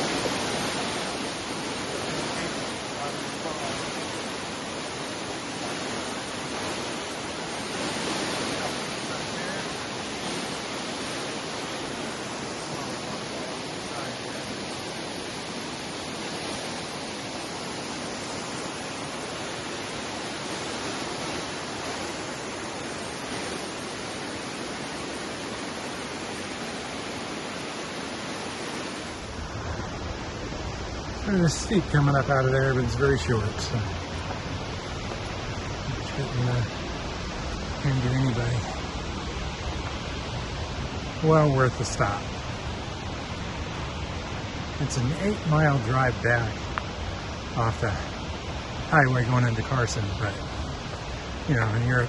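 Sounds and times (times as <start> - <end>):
waterfall roaring: 0.0 - 52.0.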